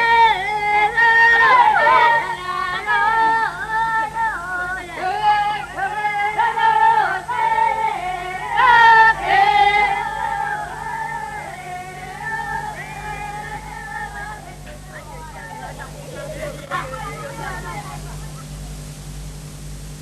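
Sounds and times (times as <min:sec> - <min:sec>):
woman singing gliding notes: 0:00.0 - 0:18.3.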